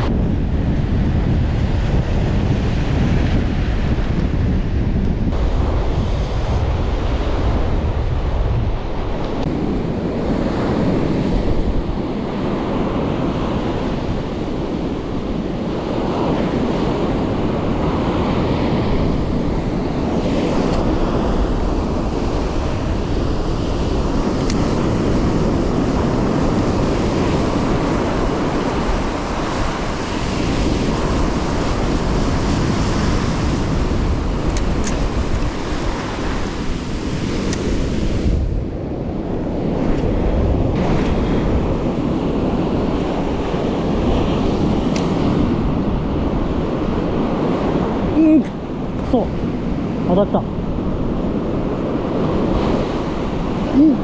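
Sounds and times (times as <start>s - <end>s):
surf washing onto beach: 0.0s - 54.0s
wind buffeting microphone: 0.0s - 54.0s.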